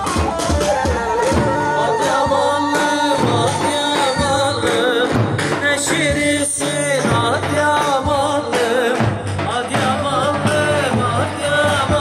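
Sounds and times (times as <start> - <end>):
percussion hits: 0.0 - 12.0.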